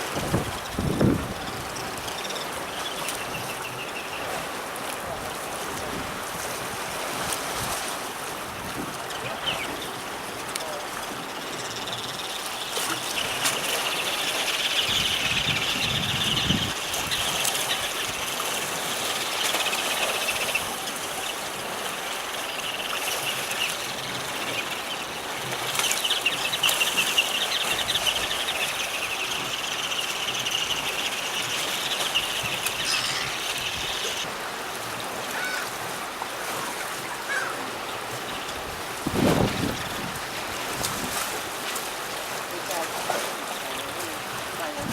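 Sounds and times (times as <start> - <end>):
birds twittering chatter: 0.0 - 5.6, 8.6 - 34.3, 35.3 - 35.7, 36.7 - 40.0, 42.5 - 44.9
outdoor background hiss: 0.0 - 44.9.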